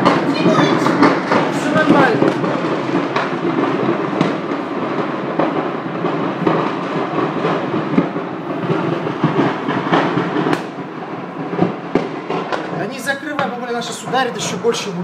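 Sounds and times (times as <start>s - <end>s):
sharp pops and cracks: 0.0s - 13.5s
large fire burning: 0.0s - 15.0s.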